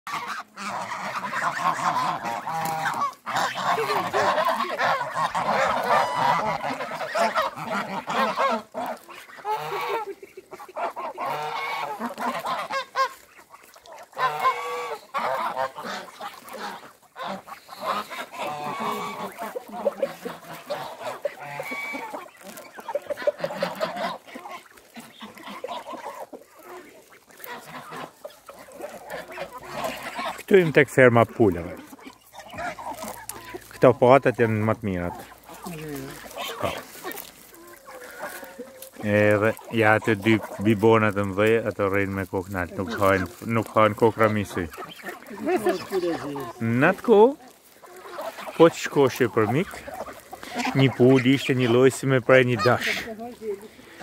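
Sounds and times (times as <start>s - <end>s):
geese honking: 0.1s - 54.0s.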